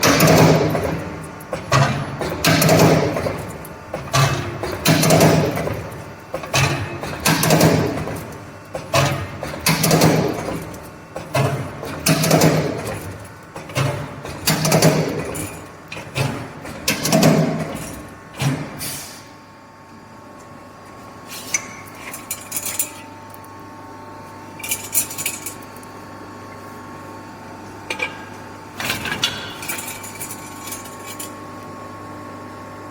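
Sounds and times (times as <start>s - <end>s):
hydraulic punching machine clanking: 0.0s - 19.4s, 21.4s - 23.4s, 24.5s - 26.6s, 27.7s - 31.8s.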